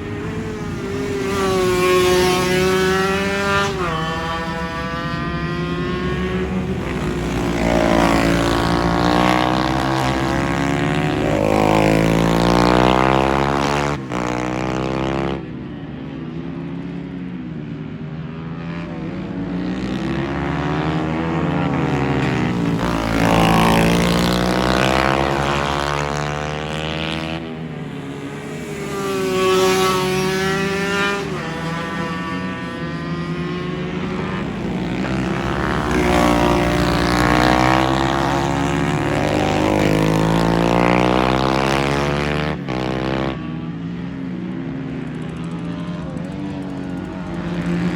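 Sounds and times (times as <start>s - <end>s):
racing motorcycles revving: 0.0s - 47.9s.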